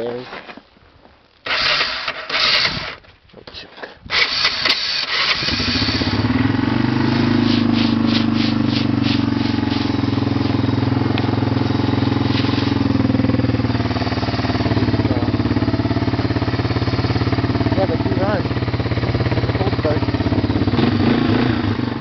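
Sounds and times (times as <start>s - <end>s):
atv engine starting and idling: 1.5s - 3.0s, 4.1s - 22.0s.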